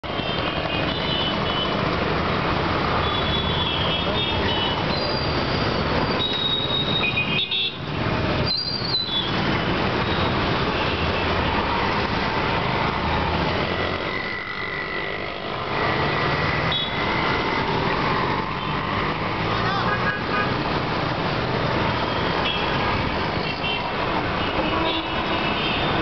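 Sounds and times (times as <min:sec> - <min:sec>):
motorcycle and scooter engines: 0:00.0 - 0:26.0.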